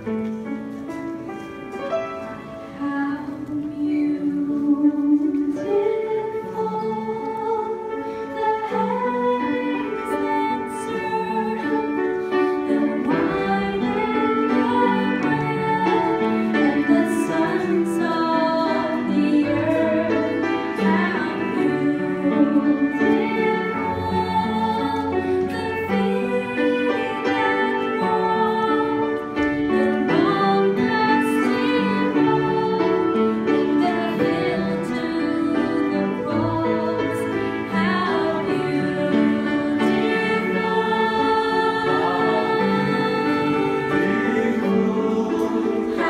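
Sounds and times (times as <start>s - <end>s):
instrumental accompaniment: 0.0s - 46.0s
church choir singing: 1.8s - 46.0s.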